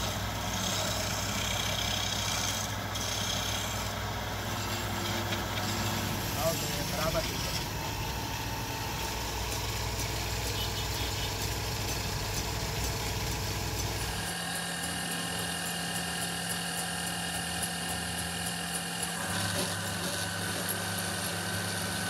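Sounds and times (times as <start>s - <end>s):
wood lathe motor humming: 0.0s - 22.0s.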